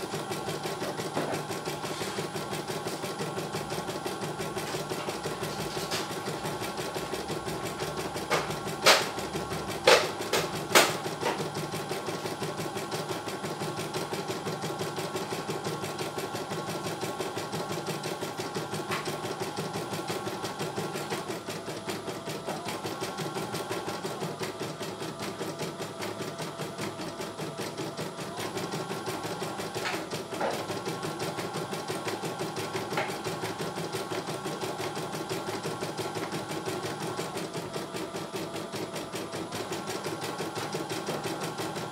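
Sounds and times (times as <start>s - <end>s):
embroidery machine stitching: 0.0s - 41.9s.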